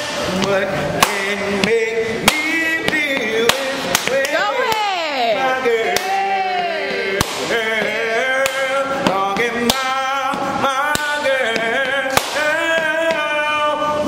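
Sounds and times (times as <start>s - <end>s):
person singing slow melody: 0.0s - 14.0s.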